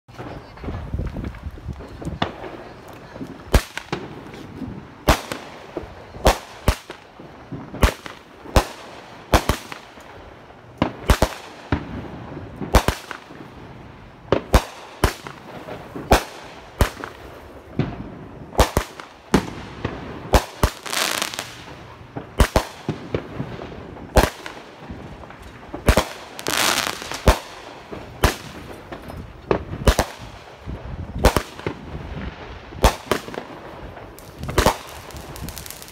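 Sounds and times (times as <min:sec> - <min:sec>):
firework bangs: 0:00.1 - 0:35.9
noisy firework bursts: 0:00.1 - 0:35.9.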